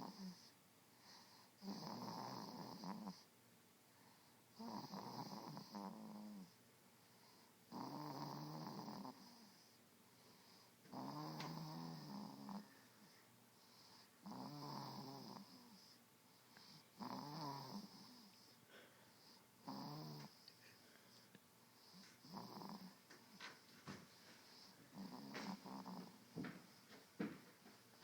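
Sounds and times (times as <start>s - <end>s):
soft rattly snoring: 0.0s - 3.3s, 4.5s - 6.6s, 7.2s - 18.6s, 19.2s - 20.5s, 21.7s - 26.7s.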